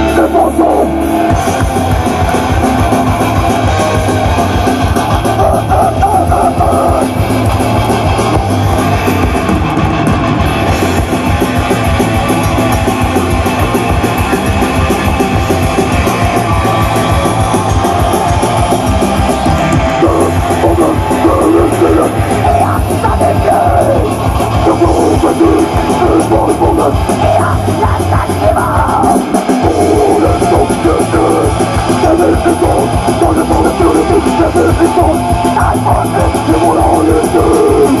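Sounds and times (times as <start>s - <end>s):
distorted electric guitars: 0.0s - 38.0s
drums: 0.0s - 38.0s
heavy metal band playing live: 0.0s - 38.0s.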